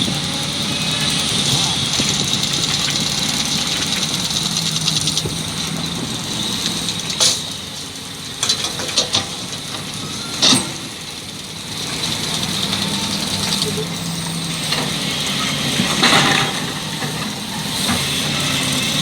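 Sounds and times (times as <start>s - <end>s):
diesel machinery running: 0.0s - 19.0s.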